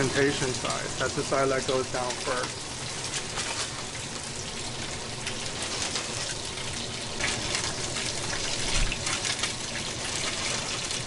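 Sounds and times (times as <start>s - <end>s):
fish frying in butter: 0.0s - 11.0s.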